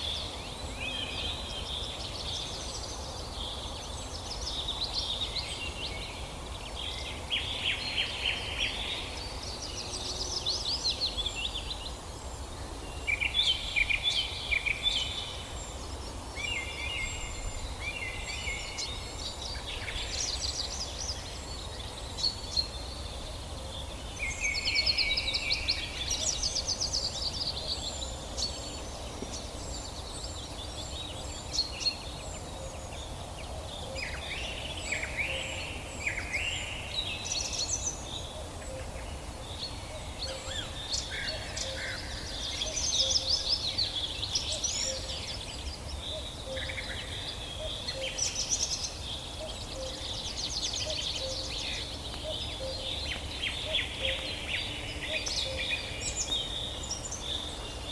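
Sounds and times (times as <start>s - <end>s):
songbirds singing and calling: 0.0s - 57.9s.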